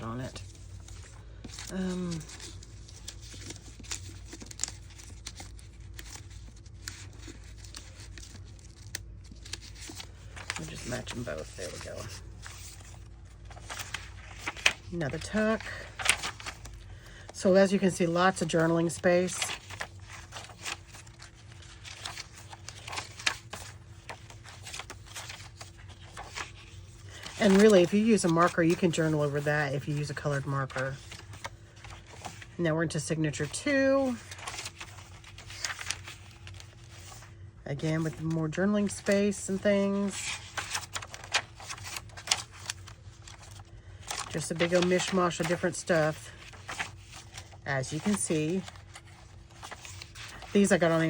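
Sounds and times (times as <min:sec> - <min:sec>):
faint steady hum: 0:00.0 - 0:51.0
paper rustling and crinkling: 0:00.0 - 0:51.0.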